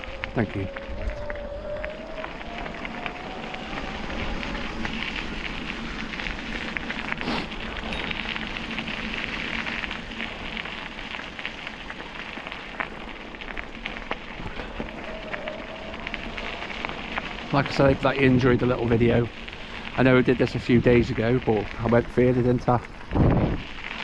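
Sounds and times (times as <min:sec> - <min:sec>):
bicycle tyres rolling on gravel path: 0:00.0 - 0:24.0.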